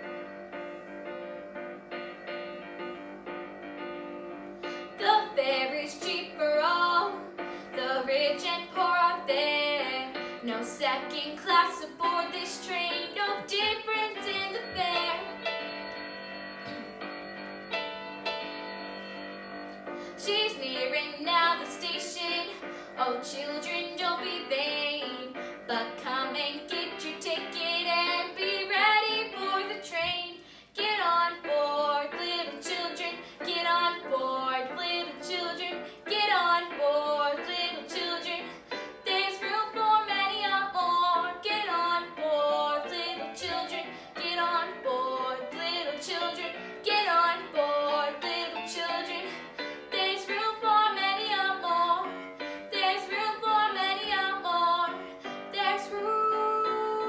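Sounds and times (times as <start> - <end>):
instrumental accompaniment: 0.0 - 57.0
girl singing: 5.0 - 15.4, 20.2 - 57.0.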